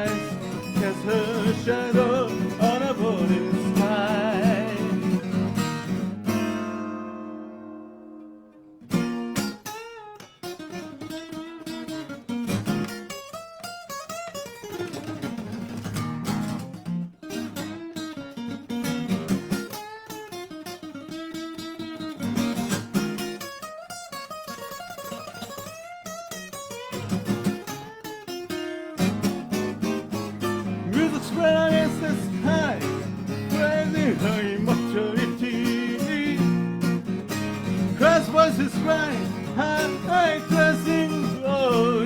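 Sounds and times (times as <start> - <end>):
acoustic guitar melody: 0.0 - 42.0.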